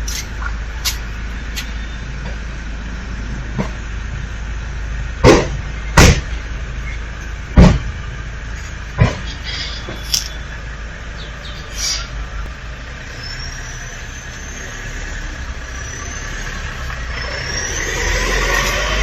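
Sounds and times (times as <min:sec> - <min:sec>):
motor vehicle running: 0:00.0 - 0:19.0.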